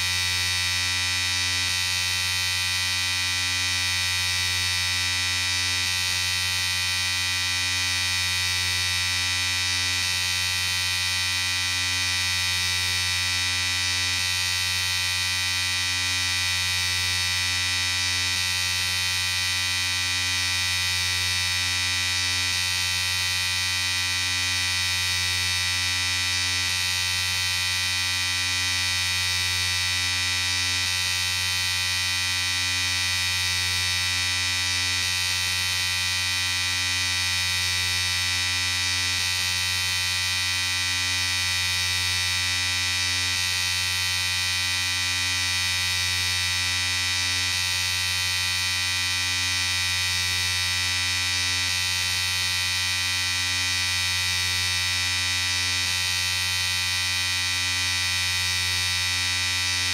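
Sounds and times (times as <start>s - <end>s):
electric shaver buzzing: 0.0s - 59.9s.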